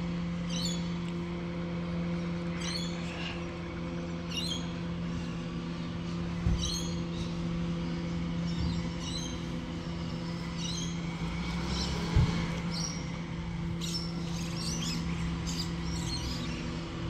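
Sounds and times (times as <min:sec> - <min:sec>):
vehicle engine idling hum: 0:00.0 - 0:17.0.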